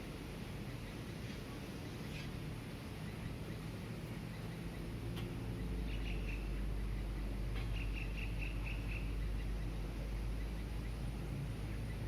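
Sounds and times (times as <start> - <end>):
distant traffic rumble: 0.0 - 12.0
bird chirping: 0.6 - 12.0.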